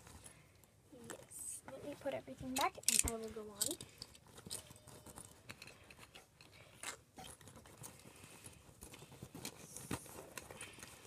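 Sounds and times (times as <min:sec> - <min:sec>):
plastic accessories rustling and clicking: 0:00.0 - 0:11.0.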